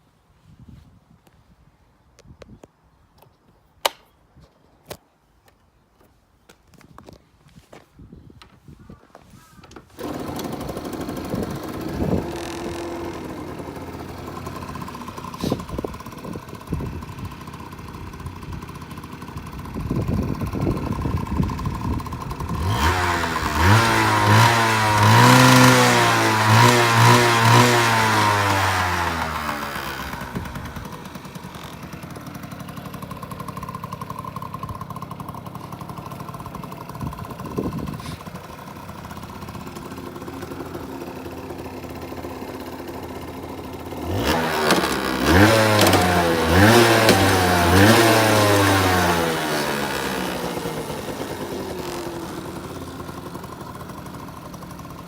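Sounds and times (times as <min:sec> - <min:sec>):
two-stroke engine idling and revving: 0:09.8 - 0:55.0.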